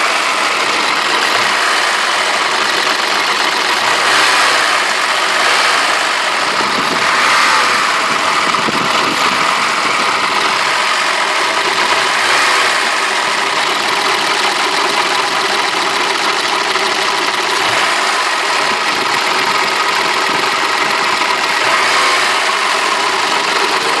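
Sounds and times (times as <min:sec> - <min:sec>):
car engine idling with knock: 0:00.0 - 0:24.0.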